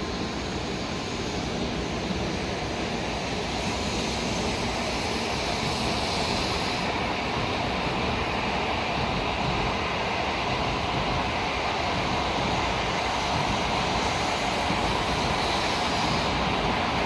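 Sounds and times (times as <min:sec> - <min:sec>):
train running past: 0:00.0 - 0:17.0.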